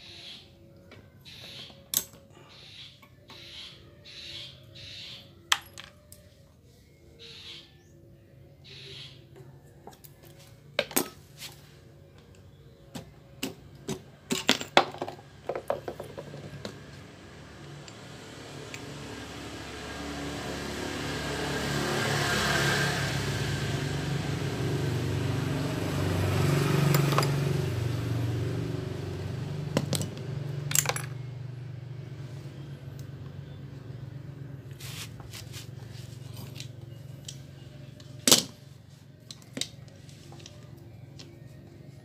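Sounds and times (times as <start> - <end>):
engine-like hum: 0.0 - 42.0.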